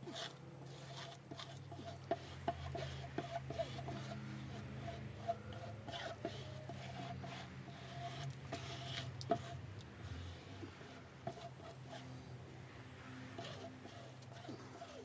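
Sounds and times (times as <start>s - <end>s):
steady low hum: 0.0s - 15.0s
squeegee rubbing and scraping: 0.1s - 12.3s, 13.0s - 15.0s.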